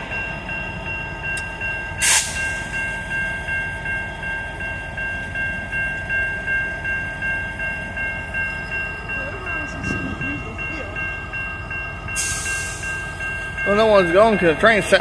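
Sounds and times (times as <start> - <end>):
crossing warning bell ringing: 0.0 - 15.0
diesel locomotive rumble: 0.0 - 15.0.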